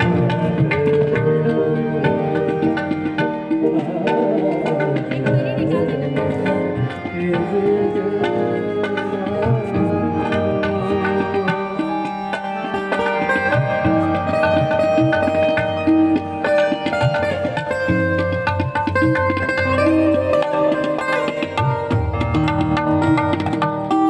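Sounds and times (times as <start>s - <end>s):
held keyboard melody: 0.0s - 24.0s
plucked string notes: 0.0s - 24.0s
tabla playing steady rhythm: 0.0s - 24.0s.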